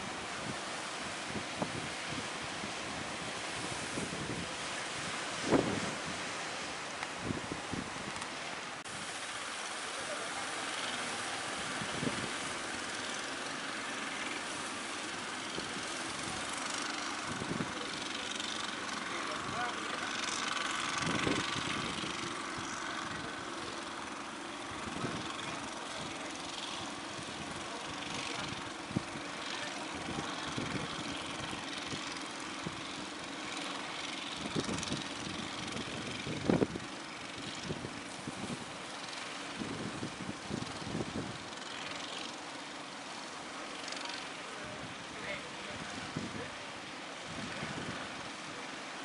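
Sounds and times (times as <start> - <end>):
boat engines running: 0.0 - 49.0
breaking surf: 0.0 - 49.0.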